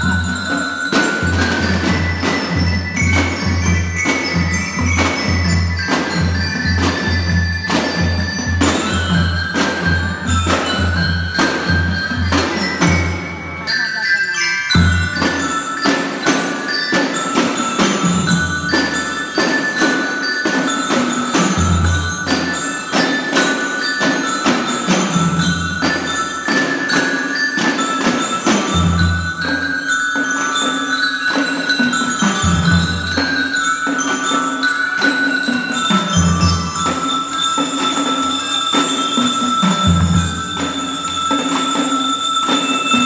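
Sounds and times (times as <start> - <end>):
drum beat: 0.0 - 13.3, 14.7 - 43.0
bell lyres ringing melody: 0.0 - 43.0.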